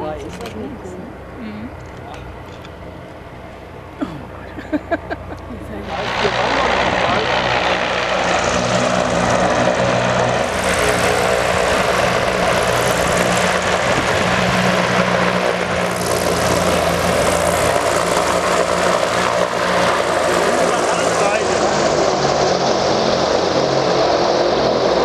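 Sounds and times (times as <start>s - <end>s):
airship engines droning: 0.0s - 25.0s.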